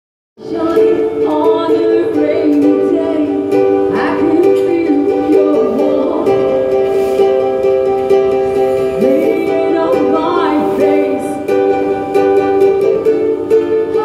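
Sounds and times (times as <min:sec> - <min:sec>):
ukulele chords strummed: 0:00.4 - 0:14.0.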